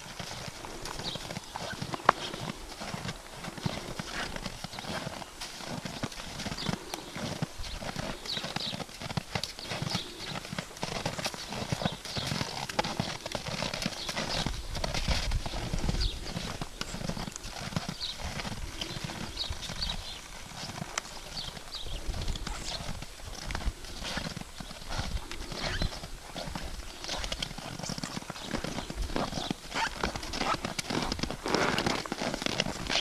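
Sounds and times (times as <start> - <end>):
horse hoofbeats on snow: 0.0 - 33.0.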